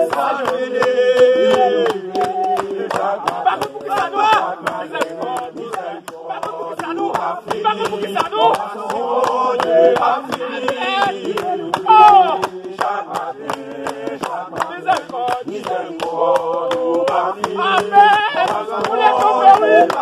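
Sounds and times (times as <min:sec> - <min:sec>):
group singing and chanting: 0:00.0 - 0:20.0
rhythmic hand-clapping: 0:00.0 - 0:20.0.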